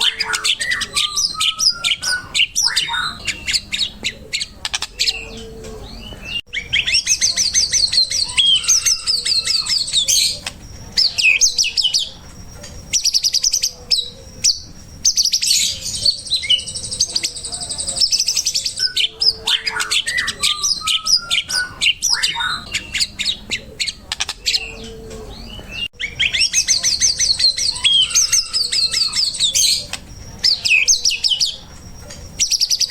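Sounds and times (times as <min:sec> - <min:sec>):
songbird trilling and whistling: 0:00.0 - 0:32.9.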